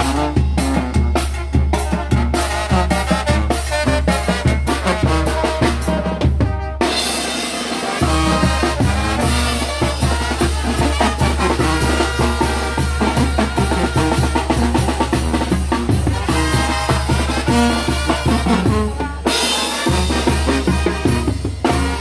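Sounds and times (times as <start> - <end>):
bass drum and snare beat: 0.0 - 22.0
brass band playing: 0.0 - 22.0.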